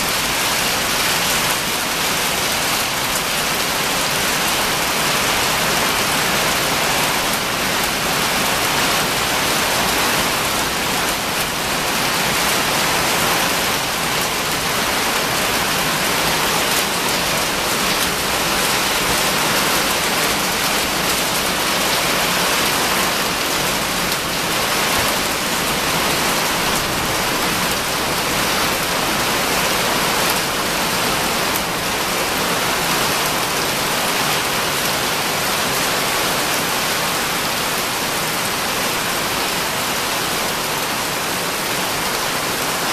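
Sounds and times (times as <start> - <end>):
rain and hail falling on pavers: 0.0 - 42.9.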